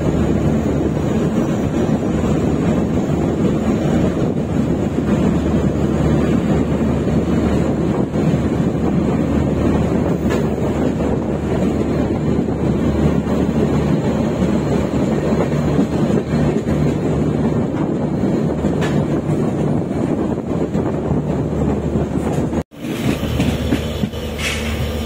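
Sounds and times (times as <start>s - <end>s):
train wheels rumbling on rails: 0.0s - 25.0s
wind buffeting microphone: 0.0s - 25.0s.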